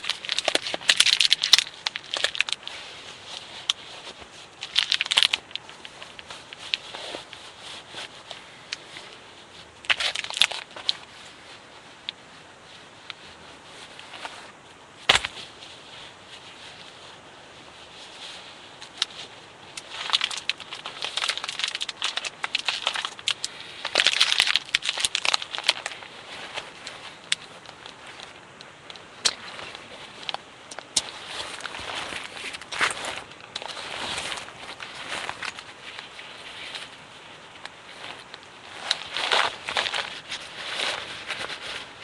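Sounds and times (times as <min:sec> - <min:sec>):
rustling and crinkling: 0:00.0 - 0:42.0.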